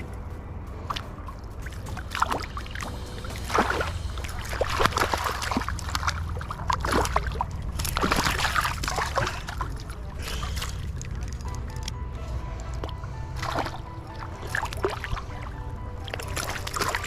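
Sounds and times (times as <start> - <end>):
steady low rumble: 0.0 - 17.0
water splashing and sloshing: 0.0 - 17.0.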